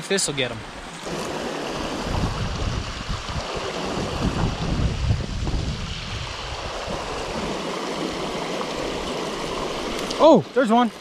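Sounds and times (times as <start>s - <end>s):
water rushing over rocks: 0.0s - 11.0s
wind buffeting microphone: 0.5s - 10.0s.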